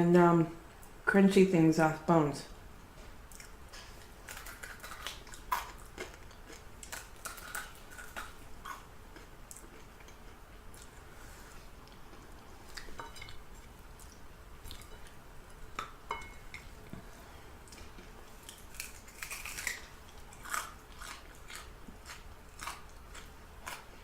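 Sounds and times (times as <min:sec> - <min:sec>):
chewing and crunching fried chicken: 0:03.2 - 0:11.1, 0:11.8 - 0:15.9, 0:16.5 - 0:24.0.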